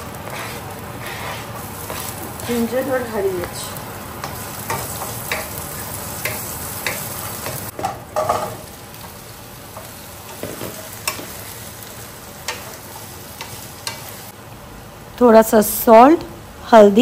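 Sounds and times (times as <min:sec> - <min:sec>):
spices sizzling in oil: 0:00.0 - 0:15.4.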